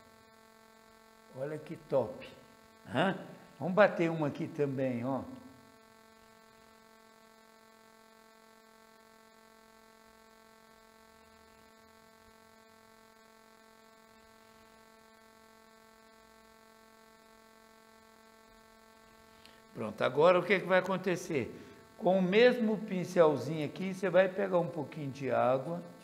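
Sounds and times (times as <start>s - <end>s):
faint buzzy electrical hum: 0.0s - 26.0s.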